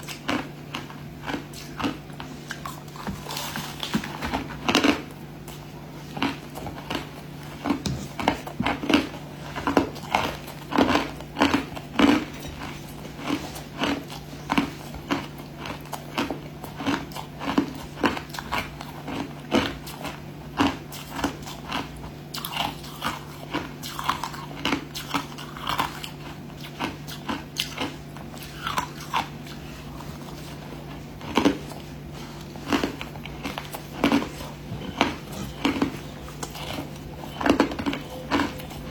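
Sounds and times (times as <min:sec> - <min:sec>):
chewing crushed ice: 0:00.0 - 0:38.9
constant low hum: 0:00.0 - 0:38.9.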